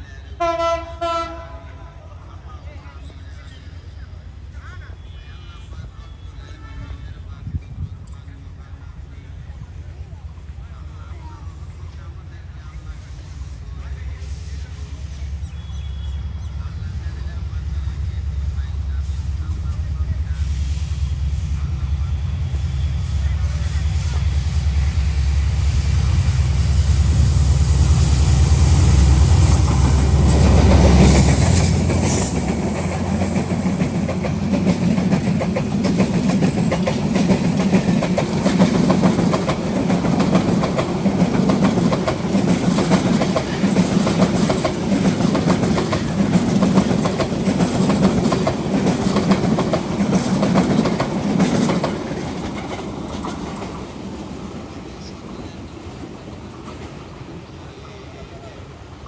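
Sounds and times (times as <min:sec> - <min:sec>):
locomotive engine rumble: 0:00.0 - 0:59.0.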